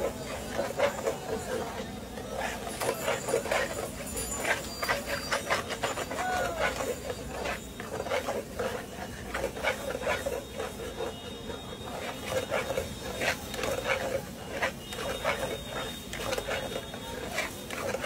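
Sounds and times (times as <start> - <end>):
metal spatula scraping a wok: 0.0 - 18.0.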